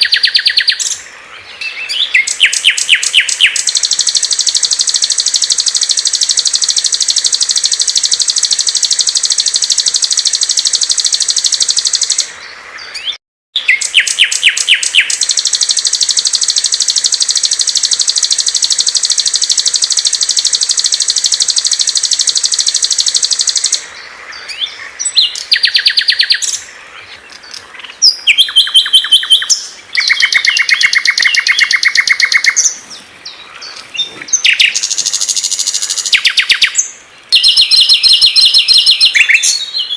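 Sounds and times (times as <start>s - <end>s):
high-pitched bird trill: 0.0s - 1.0s, 1.9s - 12.3s, 13.0s - 23.8s, 25.1s - 26.6s, 28.0s - 32.7s, 34.4s - 39.9s
rapid repeated bird chirps: 0.0s - 39.9s.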